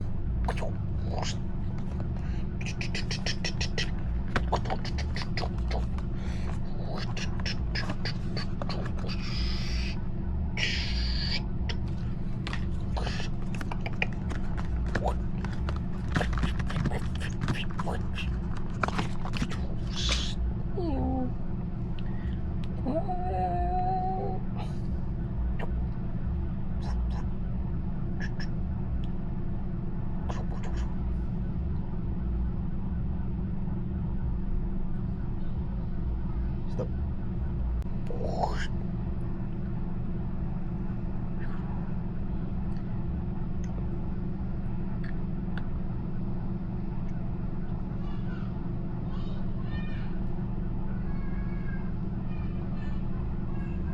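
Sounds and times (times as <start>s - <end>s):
steady low hum: 0.0s - 53.9s
steady low rumble: 0.0s - 53.9s.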